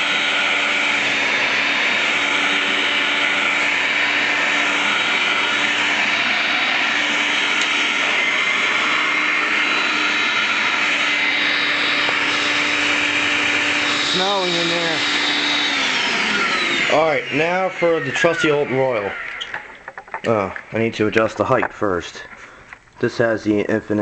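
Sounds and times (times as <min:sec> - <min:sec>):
vacuum cleaner motor whining: 0:00.0 - 0:21.8.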